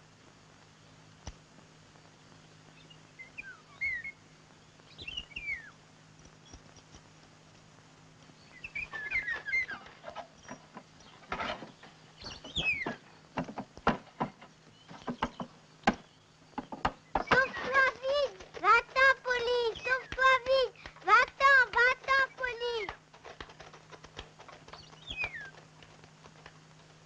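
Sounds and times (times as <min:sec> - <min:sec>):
small birds chirping: 0:00.6 - 0:27.0.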